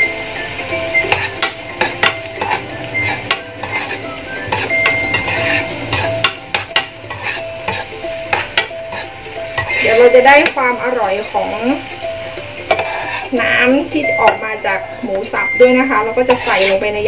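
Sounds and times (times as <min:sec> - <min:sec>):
light sizzle: 0:00.0 - 0:17.0
utensil scraping frying pan: 0:00.0 - 0:17.0.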